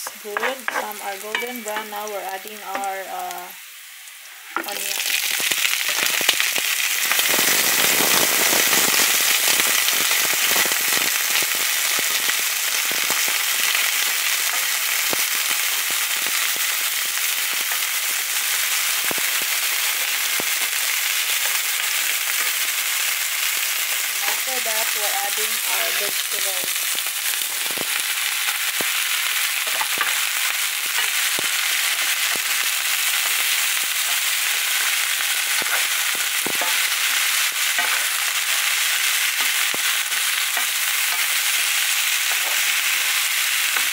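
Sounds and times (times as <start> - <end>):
onions sizzling in hot oil: 0.0 - 43.9.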